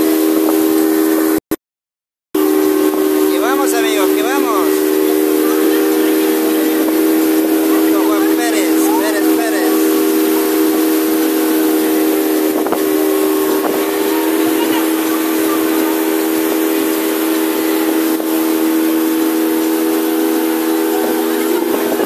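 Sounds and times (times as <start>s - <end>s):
rush of wind and water: 0.0s - 1.4s, 2.4s - 22.0s
motorboat engine droning: 0.0s - 1.5s, 2.4s - 22.0s.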